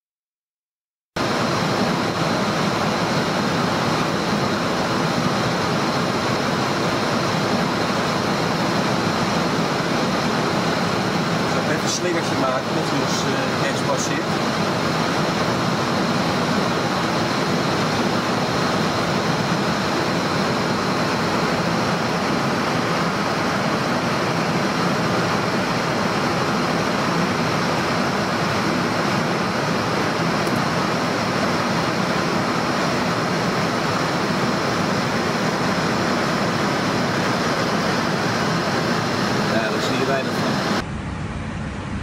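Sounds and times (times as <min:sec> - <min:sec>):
faint high whine: 0:01.2 - 0:42.0.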